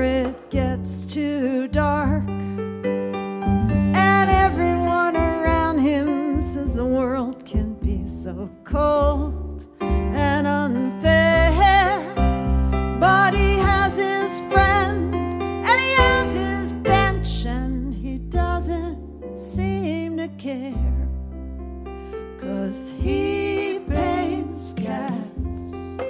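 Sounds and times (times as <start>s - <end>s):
woman singing a ballad: 0.0s - 2.4s, 3.9s - 12.3s, 12.9s - 21.2s, 22.3s - 26.0s
piano chords: 0.0s - 26.0s.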